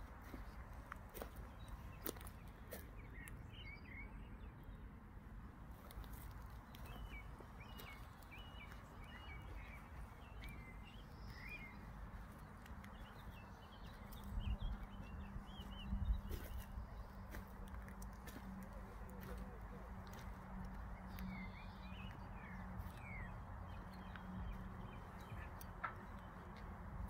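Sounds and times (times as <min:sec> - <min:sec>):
small birds chirping: 0:00.0 - 0:04.9, 0:05.7 - 0:27.0.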